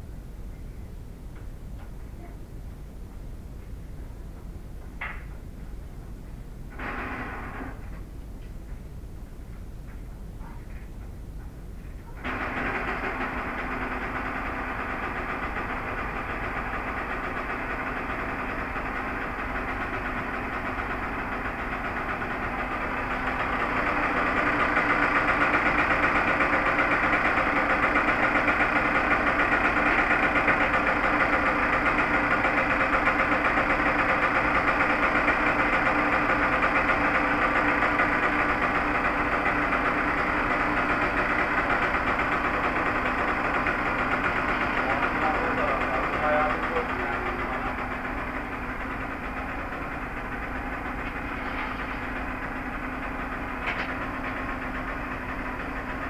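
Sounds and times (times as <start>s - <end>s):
two-stroke engine idling: 6.7s - 8.9s, 11.9s - 56.0s.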